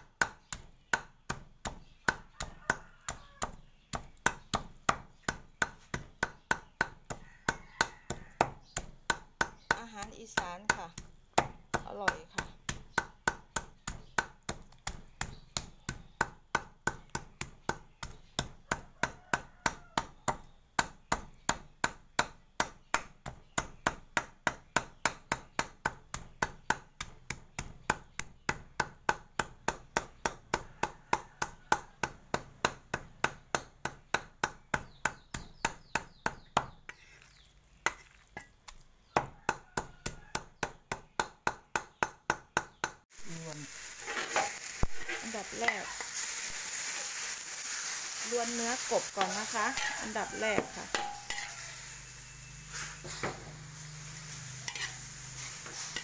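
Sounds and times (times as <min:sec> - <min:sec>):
cleaver chopping on wooden board: 0:00.1 - 0:37.0, 0:38.4 - 0:47.5, 0:49.1 - 0:52.0, 0:53.0 - 0:53.7, 0:54.6 - 0:56.0.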